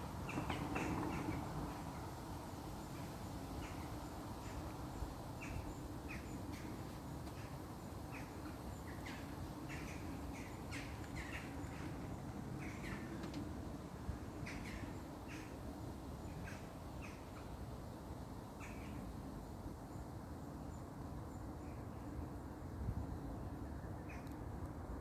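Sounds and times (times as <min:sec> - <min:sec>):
low background noise: 0:00.0 - 0:25.0.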